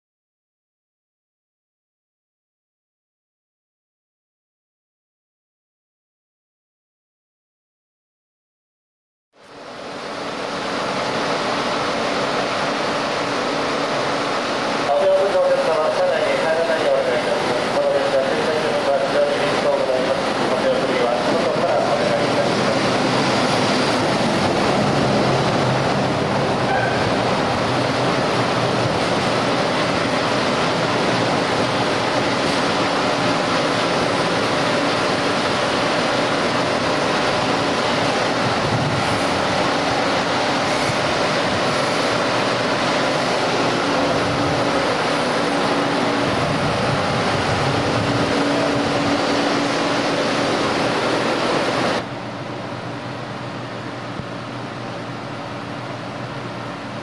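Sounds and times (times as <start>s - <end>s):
train rolling past slowly: 9.4s - 57.0s.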